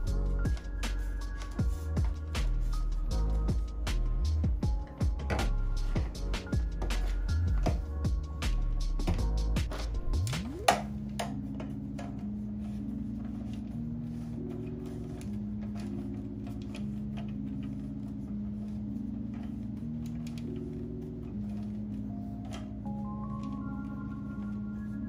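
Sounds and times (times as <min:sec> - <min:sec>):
soft background music: 0:00.0 - 0:25.0.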